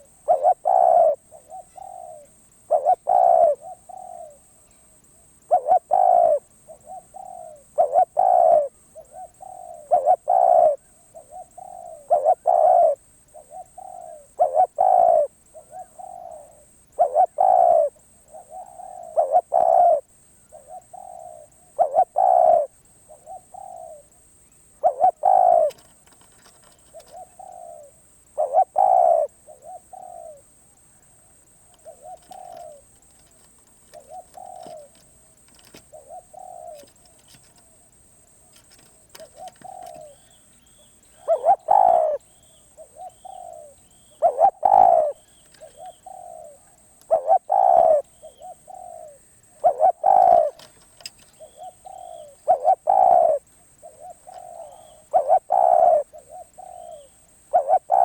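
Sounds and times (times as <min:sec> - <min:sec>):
dove cooing: 0:00.0 - 0:24.2, 0:24.8 - 0:58.0.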